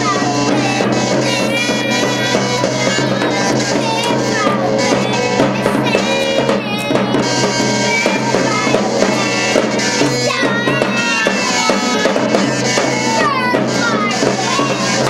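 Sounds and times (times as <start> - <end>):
band playing live: 0.0 - 15.0
drums struck: 0.0 - 15.0.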